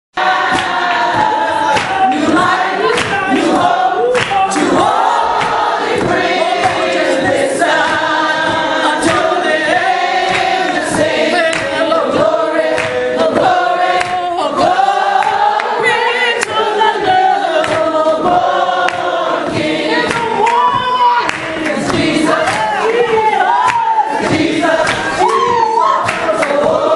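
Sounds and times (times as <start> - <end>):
congregation singing: 0.2 - 26.9
hand claps: 0.2 - 26.9.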